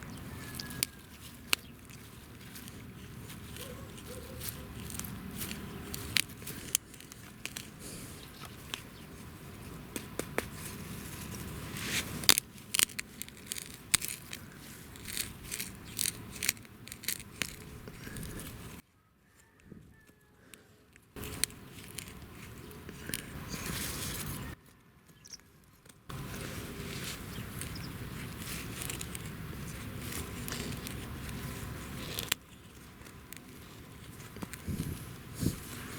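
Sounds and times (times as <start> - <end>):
dry wood crackling and snapping: 0.1 - 18.8, 21.2 - 35.9.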